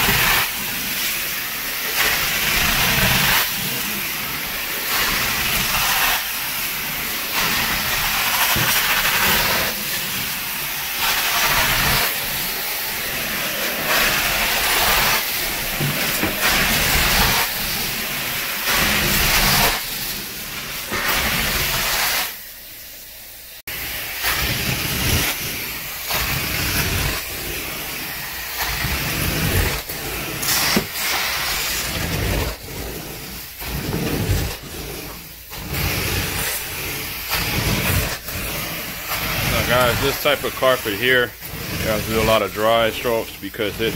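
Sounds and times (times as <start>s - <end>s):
carpet extraction wand suction: 0.0s - 22.8s, 23.7s - 43.9s.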